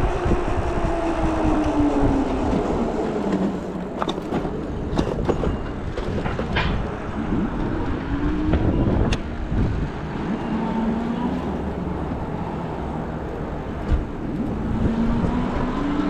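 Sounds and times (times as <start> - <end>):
road rumble: 0.0 - 16.0
wind: 0.0 - 16.0.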